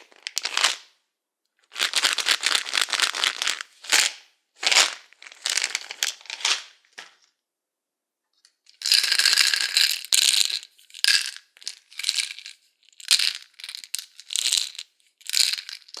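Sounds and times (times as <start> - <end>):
pills rattling in a bottle: 0.0 - 0.9, 1.7 - 7.2, 8.7 - 16.0.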